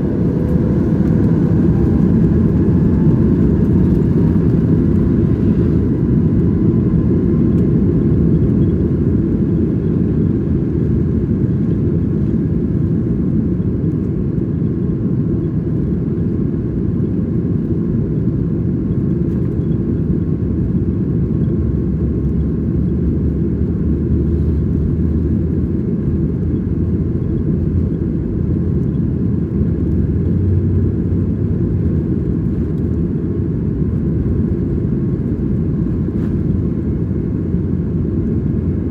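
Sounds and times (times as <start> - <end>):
airplane cabin engine roar: 0.0 - 38.9.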